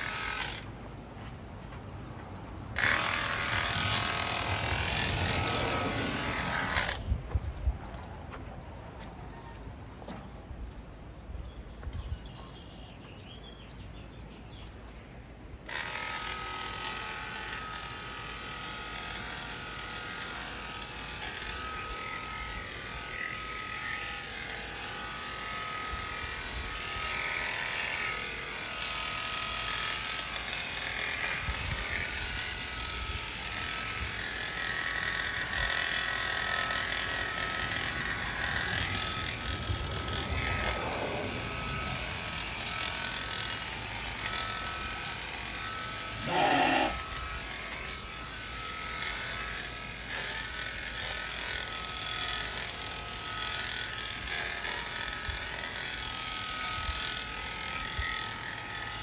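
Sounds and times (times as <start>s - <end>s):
electric clippers humming: 0.0s - 0.9s, 2.7s - 7.1s, 15.7s - 59.0s.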